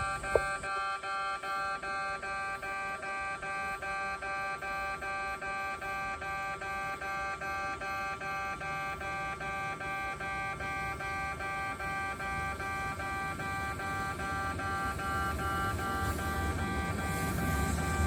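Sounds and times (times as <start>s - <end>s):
level-crossing alarm tone: 0.0s - 18.0s.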